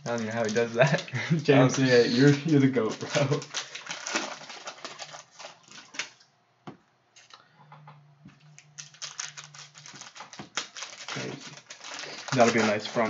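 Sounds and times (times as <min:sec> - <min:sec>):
foil wrapper crinkling: 0:00.0 - 0:06.2, 0:08.6 - 0:13.0.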